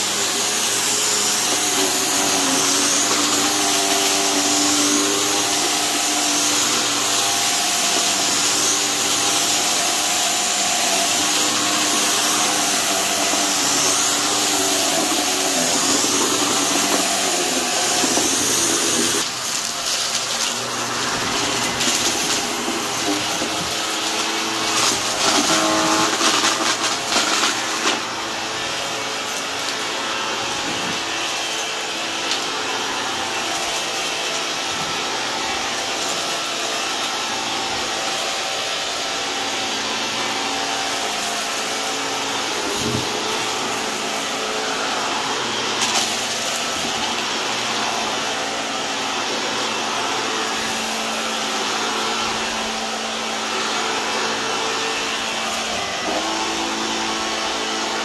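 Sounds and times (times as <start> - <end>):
vacuum cleaner motor hum: 0.0 - 58.0.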